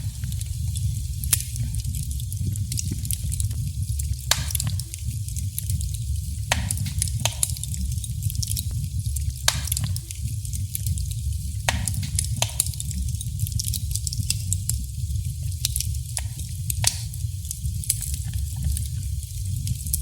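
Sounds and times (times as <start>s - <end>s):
flames rumbling and hissing: 0.0s - 20.0s
wood crackling and popping: 0.0s - 20.0s.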